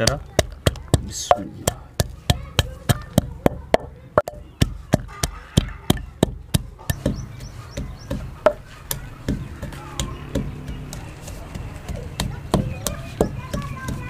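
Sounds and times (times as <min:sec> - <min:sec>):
pestle pounding in clay mortar: 0:00.0 - 0:14.0.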